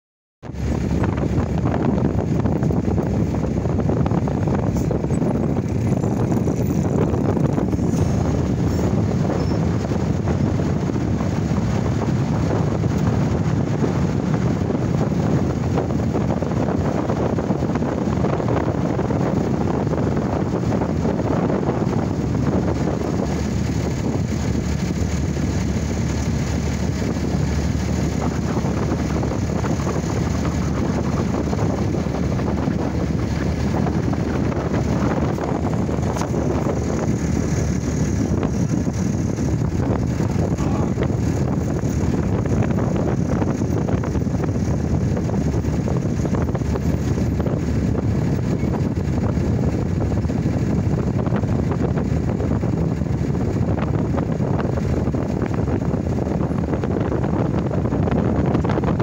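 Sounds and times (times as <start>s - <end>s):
wind on microphone: 0.4s - 59.0s
truck engine rumbling: 0.5s - 59.0s.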